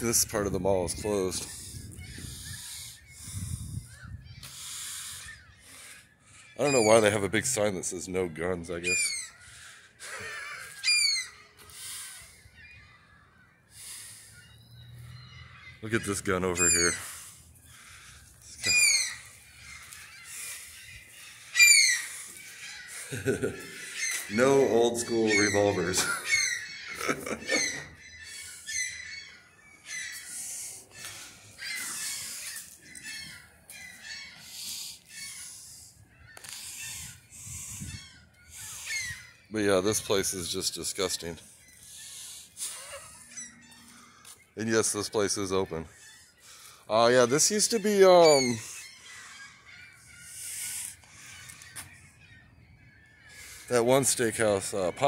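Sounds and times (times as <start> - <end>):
seagulls calling: 0.0 - 55.0.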